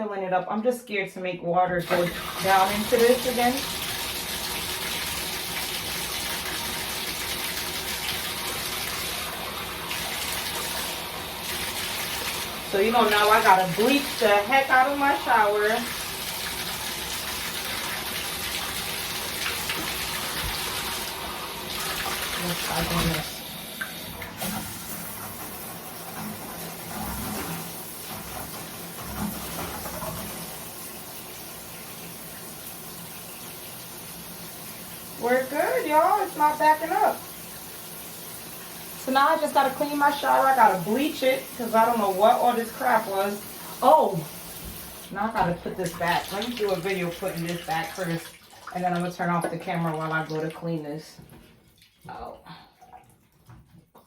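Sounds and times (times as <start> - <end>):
water pouring into bathtub: 1.8 - 54.0.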